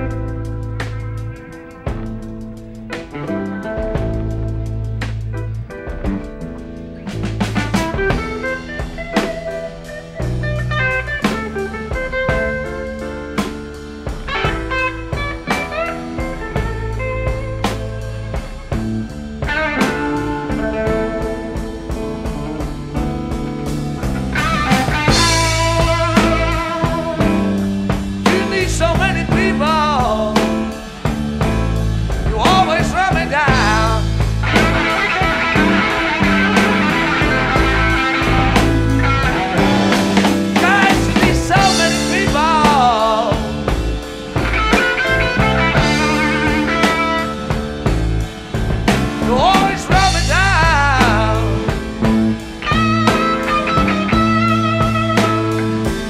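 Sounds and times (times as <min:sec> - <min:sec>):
blues rock band playing: 0:00.0 - 0:56.0
lead guitar bent notes: 0:00.0 - 0:56.0
steady drum beat: 0:00.0 - 0:56.0.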